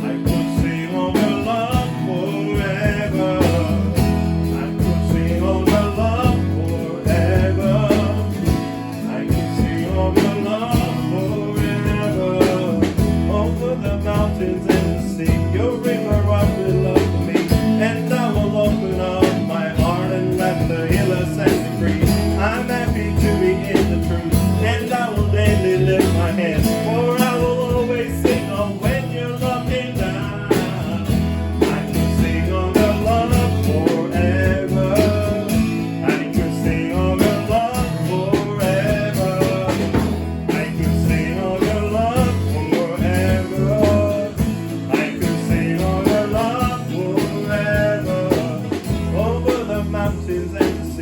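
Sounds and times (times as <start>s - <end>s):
bass: 0.0s - 51.0s
strummed guitar: 0.0s - 51.0s
voices singing: 0.0s - 51.0s.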